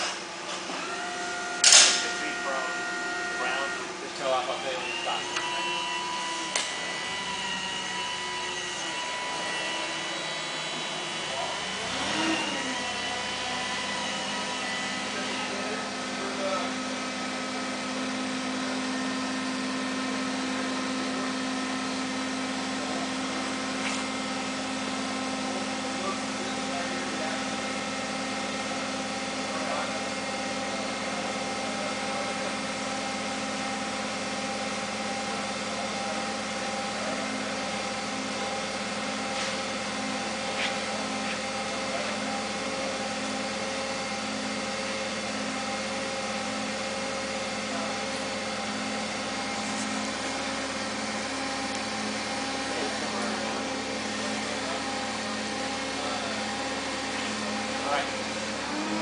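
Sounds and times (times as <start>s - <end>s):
forklift engine humming: 0.0s - 59.0s.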